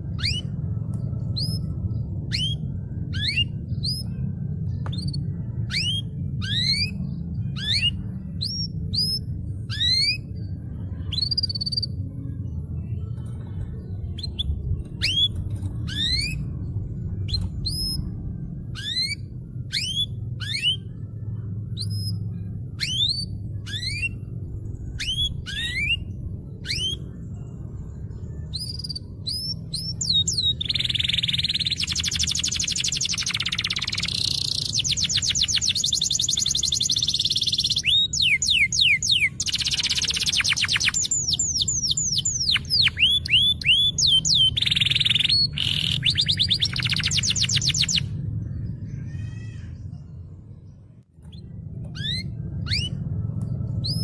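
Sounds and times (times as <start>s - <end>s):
canary singing: 0.0s - 50.0s, 51.2s - 54.0s.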